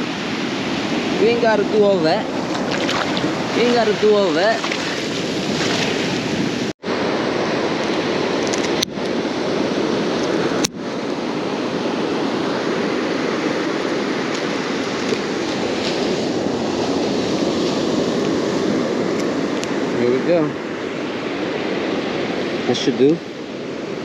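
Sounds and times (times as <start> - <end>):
surf on a beach: 0.0 - 24.0
wind on microphone: 0.0 - 24.0.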